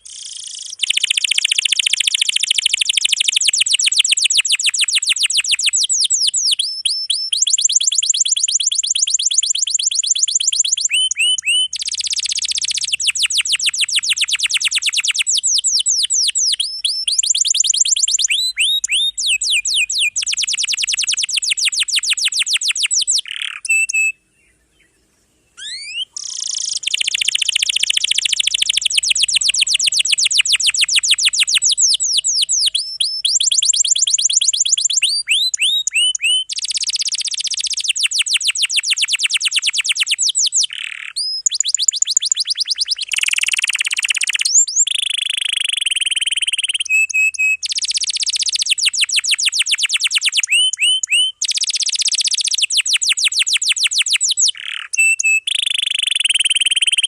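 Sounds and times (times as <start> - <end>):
canary singing trills: 0.0 - 25.0, 25.6 - 57.0.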